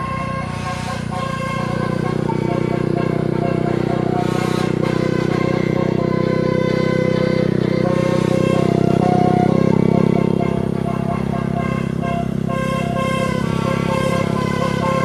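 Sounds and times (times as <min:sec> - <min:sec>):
bus engine running: 0:00.0 - 0:15.0
multi-note bus horn tune: 0:00.0 - 0:15.0.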